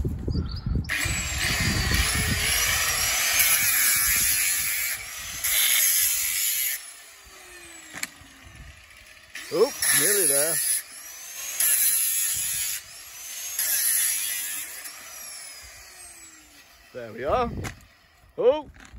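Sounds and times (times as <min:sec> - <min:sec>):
power tool cutting metal: 0:00.9 - 0:18.2.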